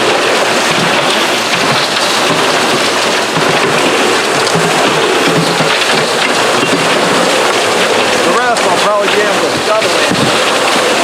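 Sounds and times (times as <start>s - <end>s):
water and gravel rushing: 0.0s - 11.0s.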